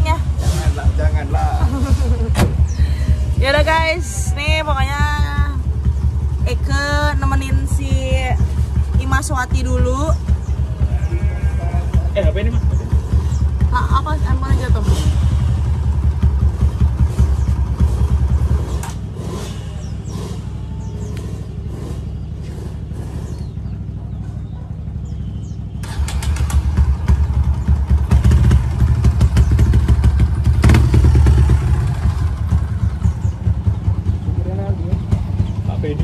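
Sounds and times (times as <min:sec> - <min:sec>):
vehicle engines running: 0:00.0 - 0:36.0.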